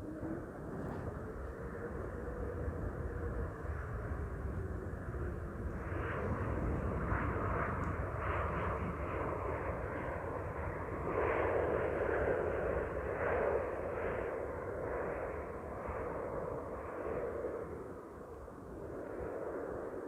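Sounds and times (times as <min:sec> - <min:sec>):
airliner engines roaring: 0:00.0 - 0:20.0
wind buffeting microphone: 0:00.0 - 0:20.0.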